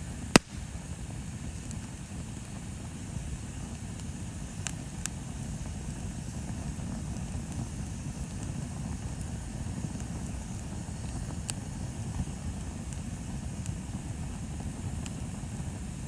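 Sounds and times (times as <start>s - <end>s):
bonfire rumbling and crackling: 0.0s - 16.0s
burning wood popping: 0.0s - 16.0s.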